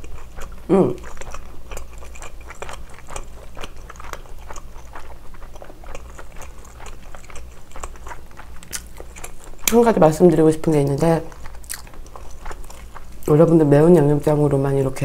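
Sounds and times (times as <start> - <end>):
chewing with mouth clicks: 0.0 - 13.6.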